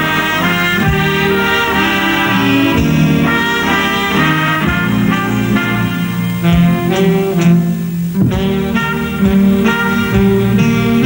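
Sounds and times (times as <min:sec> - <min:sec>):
big band instrumental: 0:00.0 - 0:11.0
saxophones: 0:00.0 - 0:11.0.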